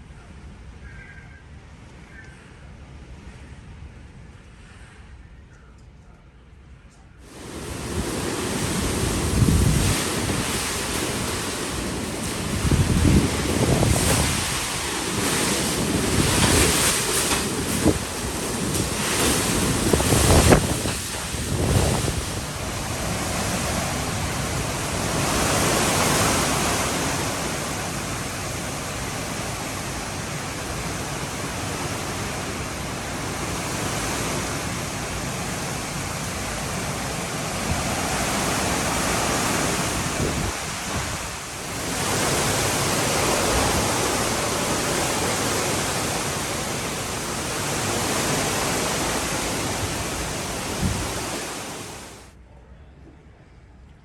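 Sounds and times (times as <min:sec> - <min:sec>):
heavy rain: 0:07.2 - 0:52.3
strong wind gusting: 0:07.2 - 0:52.3
wind buffeting microphone: 0:07.2 - 0:52.3.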